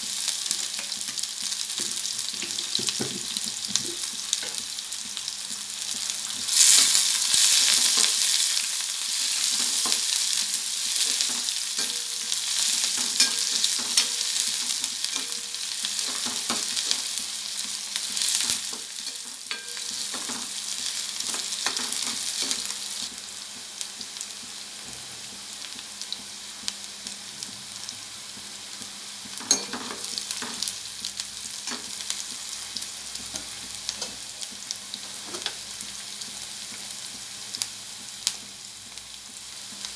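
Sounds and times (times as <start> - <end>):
onions sizzling in oil: 0.0 - 39.9.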